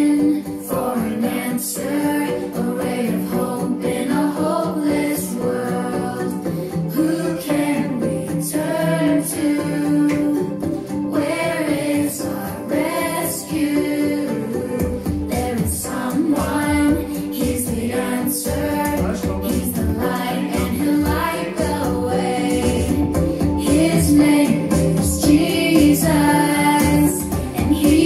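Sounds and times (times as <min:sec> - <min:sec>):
instrumental backing: 0:00.0 - 0:28.0
voices singing worship song: 0:00.0 - 0:28.0.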